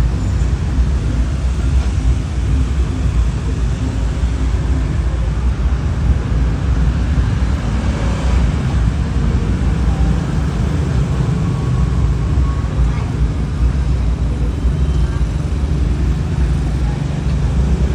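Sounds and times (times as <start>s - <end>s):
faint voices: 0.0s - 17.9s
outdoor background rumble: 0.0s - 17.9s.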